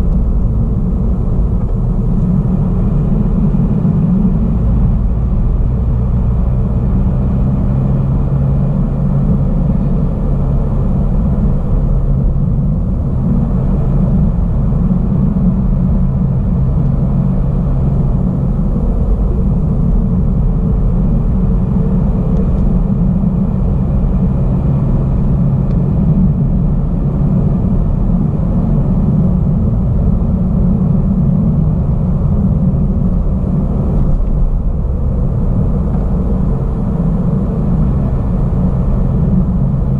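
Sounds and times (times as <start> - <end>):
engine hum: 0.0 - 39.9
tyres rumbling on asphalt: 0.0 - 39.9.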